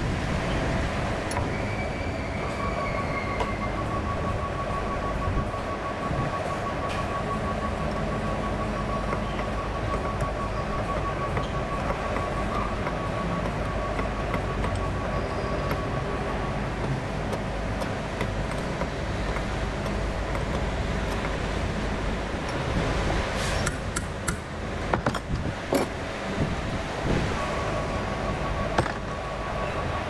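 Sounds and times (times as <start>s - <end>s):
heavy machinery engines rumbling: 0.0s - 30.0s.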